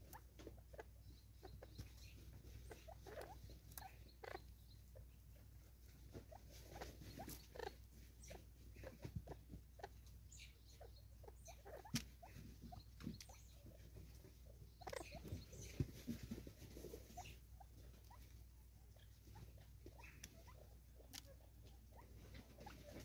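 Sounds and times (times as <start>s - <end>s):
light scratching: 0.0s - 23.0s.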